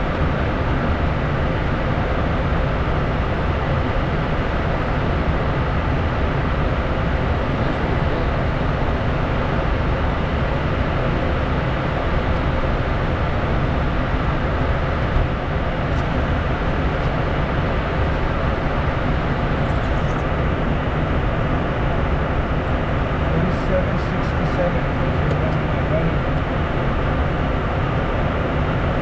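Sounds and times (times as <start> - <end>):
jet engines humming: 0.0 - 29.0.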